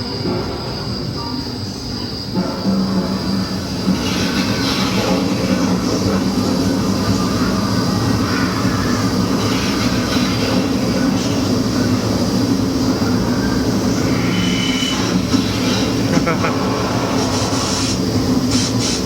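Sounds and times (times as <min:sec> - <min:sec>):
low fan hum: 0:02.8 - 0:19.0.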